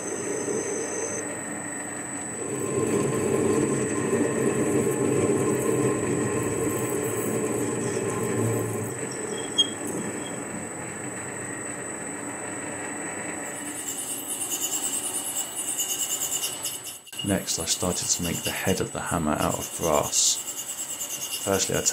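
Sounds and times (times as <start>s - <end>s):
cutting tool on spinning steel: 2.2s - 11.5s, 13.4s - 21.9s
metal lathe running: 2.2s - 21.9s.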